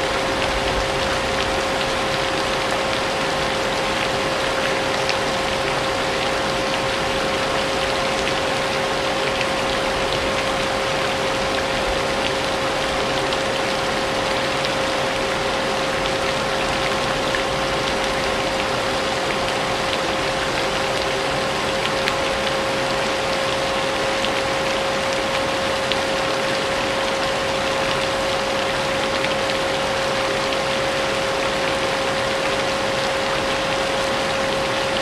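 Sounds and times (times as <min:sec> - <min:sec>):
continuous rainfall: 0:00.0 - 0:35.0.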